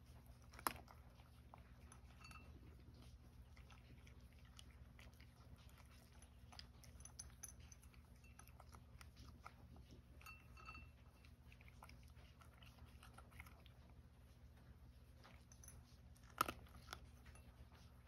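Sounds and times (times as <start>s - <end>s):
cat crunching dry kibble: 0.0s - 18.0s
low steady hum: 0.0s - 18.0s.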